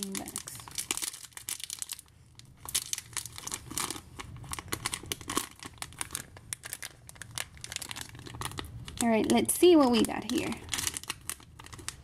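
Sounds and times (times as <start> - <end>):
foil packet crinkling: 0.0 - 12.0.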